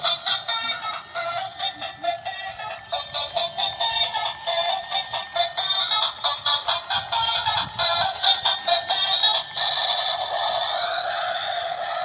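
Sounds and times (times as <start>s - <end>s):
tinny electronic toy tune: 0.0s - 12.0s.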